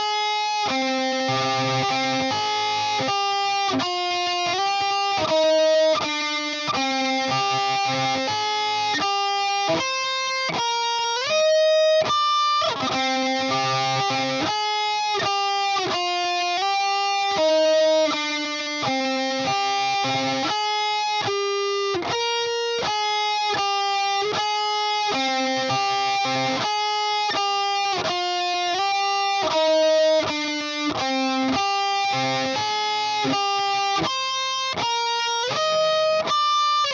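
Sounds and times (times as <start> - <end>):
electric guitar melody: 0.0 - 36.9.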